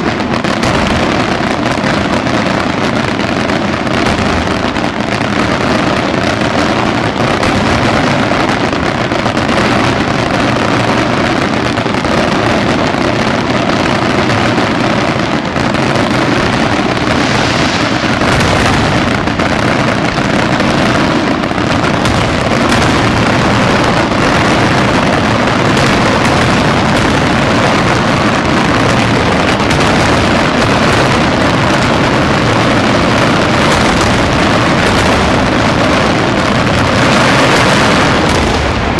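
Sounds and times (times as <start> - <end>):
fireworks bursts and bangs: 0.0 - 38.9.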